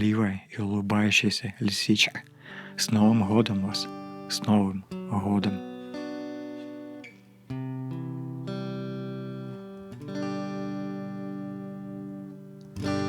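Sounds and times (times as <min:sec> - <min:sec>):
instrumental held chords: 0:02.3 - 0:13.0.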